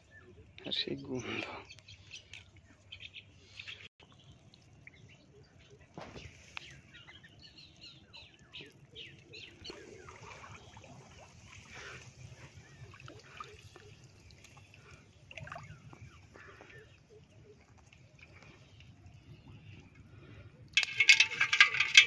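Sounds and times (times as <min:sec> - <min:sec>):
trickling water: 0:00.1 - 0:22.0
small water splashes: 0:04.0 - 0:22.0.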